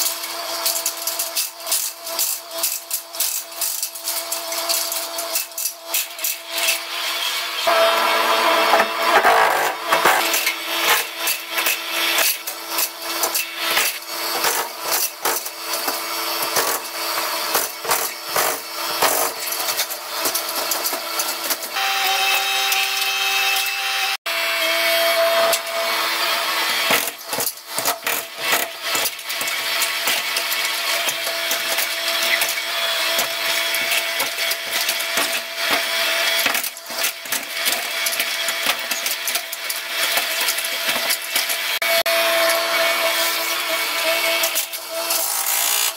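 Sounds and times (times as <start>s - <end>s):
hydraulic breaker hammering: 0.0s - 24.1s, 25.1s - 45.9s.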